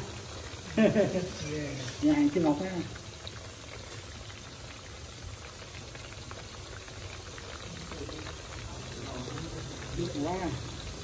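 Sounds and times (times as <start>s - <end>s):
sauce bubbling and crackling in pan: 0.0s - 11.0s.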